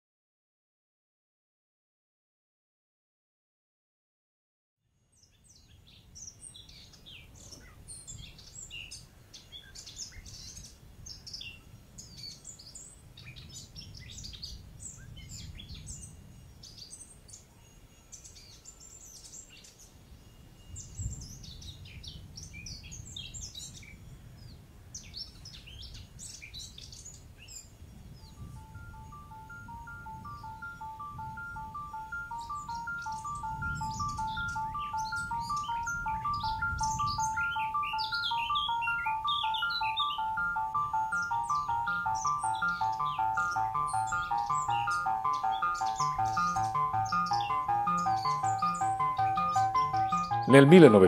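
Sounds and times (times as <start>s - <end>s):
small birds chirping and singing: 5.2s - 51.0s.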